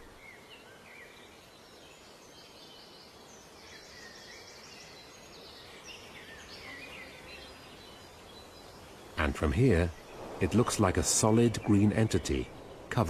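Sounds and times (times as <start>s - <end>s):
birds chirping and singing: 0.0s - 13.0s.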